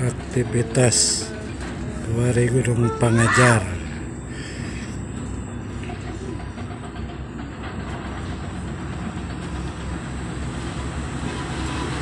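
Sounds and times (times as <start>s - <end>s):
low rumbling drone: 0.0s - 10.5s.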